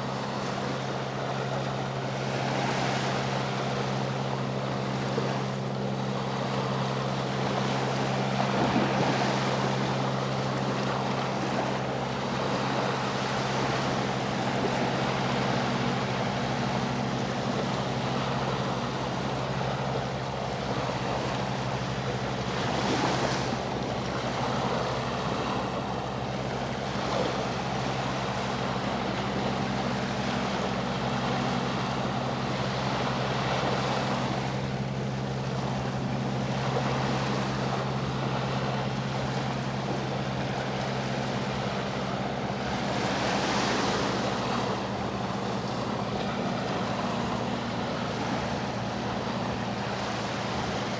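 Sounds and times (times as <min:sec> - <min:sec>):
boat engine drone: 0:00.0 - 0:50.9
sea waves breaking: 0:00.0 - 0:50.9.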